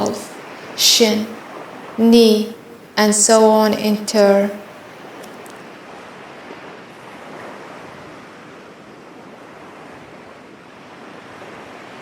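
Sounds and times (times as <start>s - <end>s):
ocean waves washing: 0.0s - 12.0s.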